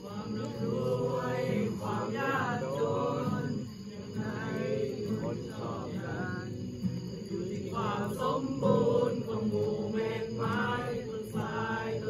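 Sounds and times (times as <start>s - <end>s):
group chanting: 0.0s - 12.0s.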